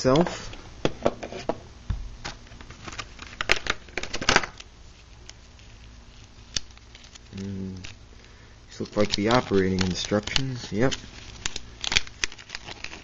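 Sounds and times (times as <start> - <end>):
plastic packaging crackling: 2.4 - 13.0.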